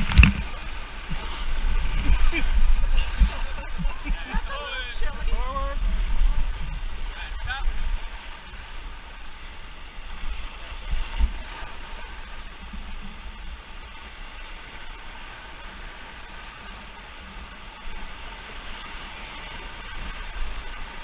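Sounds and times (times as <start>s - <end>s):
river water rushing: 0.0s - 21.0s
wind rumbling on microphone: 0.0s - 21.0s.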